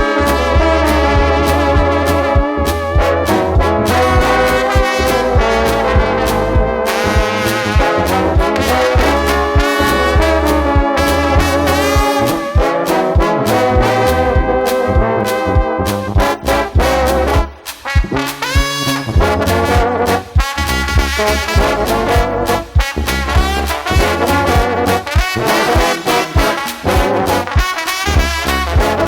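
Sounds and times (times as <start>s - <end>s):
bass line: 0.0s - 29.0s
brass band playing: 0.0s - 29.0s
drums steady beat: 0.0s - 29.0s
trombones: 0.0s - 29.0s.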